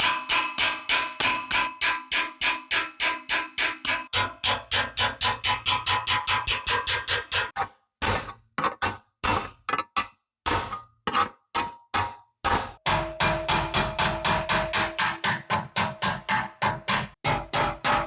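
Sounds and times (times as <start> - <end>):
hammer on sheet metal: 0.0 - 8.4, 9.2 - 9.8, 10.5 - 18.0.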